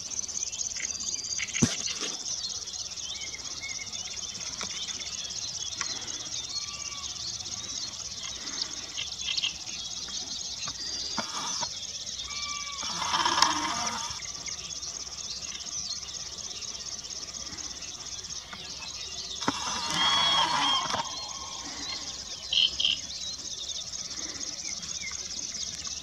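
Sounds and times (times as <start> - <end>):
high-pitched insect trill: 0.0 - 26.0
songbird chirps: 0.0 - 26.0.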